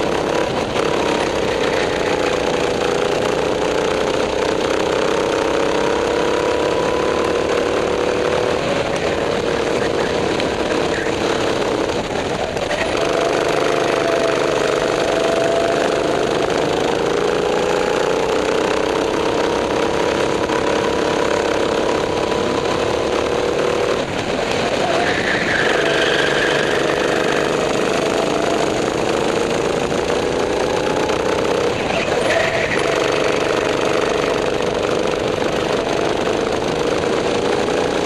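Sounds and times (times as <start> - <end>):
go-kart engine running hard: 0.0 - 38.0.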